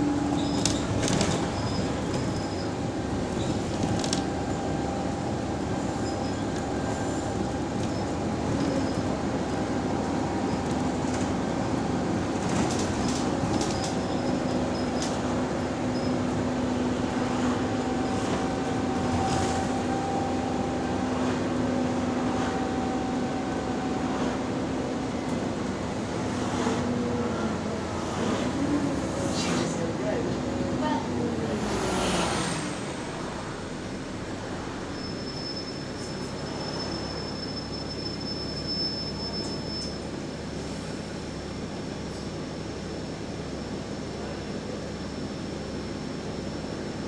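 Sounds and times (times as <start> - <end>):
bus engine drone: 0.0 - 47.0.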